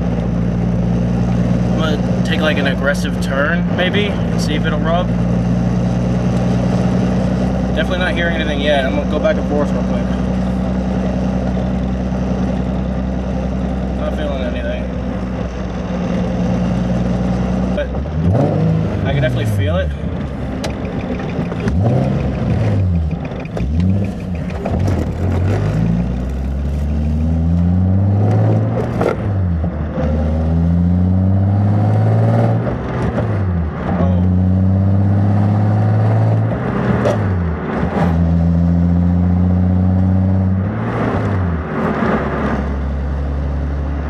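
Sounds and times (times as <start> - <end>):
car engine accelerating through gears: 0.0 - 44.0.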